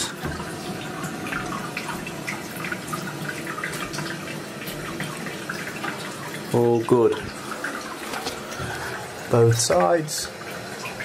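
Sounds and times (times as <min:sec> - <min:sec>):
toilet cistern refilling: 0:00.0 - 0:11.0.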